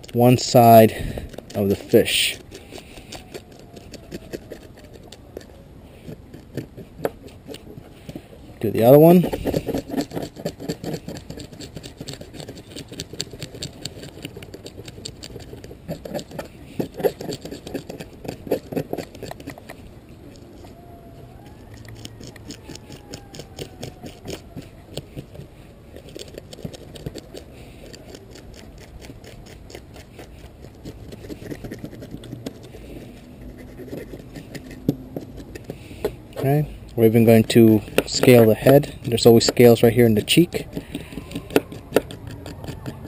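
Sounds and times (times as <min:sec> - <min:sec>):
fish scaler scraping fish scales: 0:00.2 - 0:20.8, 0:21.8 - 0:43.0.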